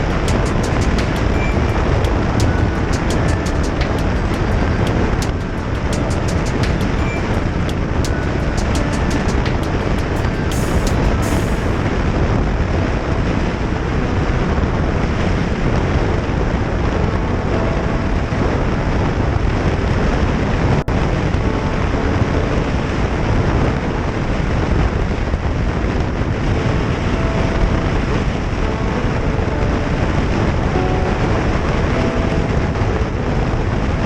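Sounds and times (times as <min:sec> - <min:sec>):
wind on microphone: 0:00.0 - 0:34.0.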